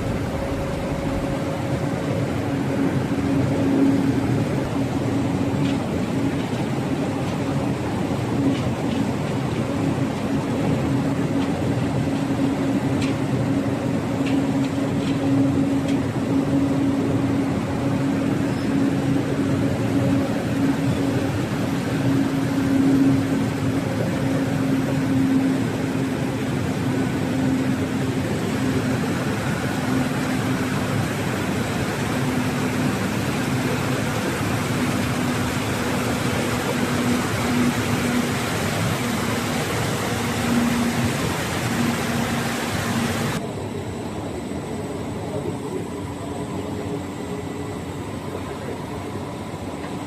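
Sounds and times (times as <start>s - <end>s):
furnace machinery humming: 0.0s - 50.0s.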